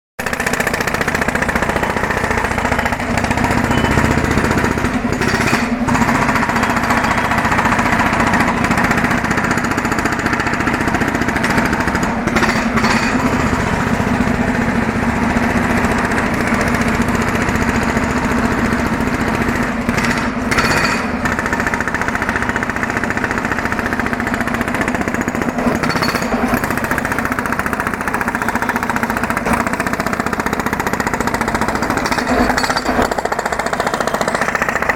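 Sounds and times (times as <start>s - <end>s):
petrol road drill hammering: 0.2s - 34.9s.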